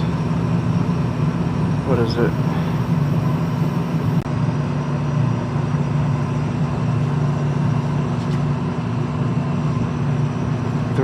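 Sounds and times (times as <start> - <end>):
air conditioning unit humming: 0.0 - 11.0.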